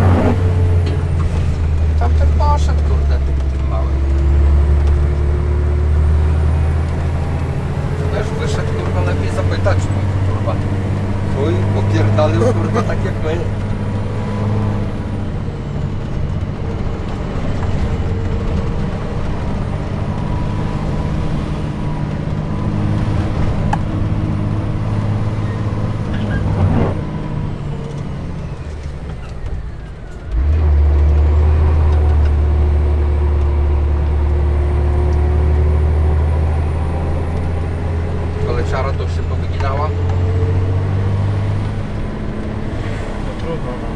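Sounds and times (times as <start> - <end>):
truck diesel engine under load: 0.0 - 43.9.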